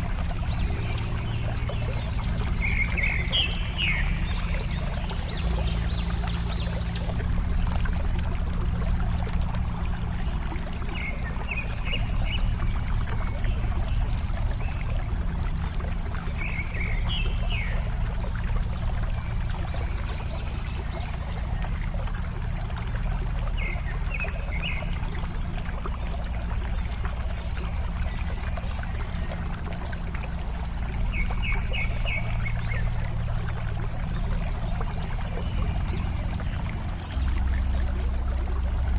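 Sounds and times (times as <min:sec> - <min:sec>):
water trickling over rocks: 0:00.0 - 0:38.9.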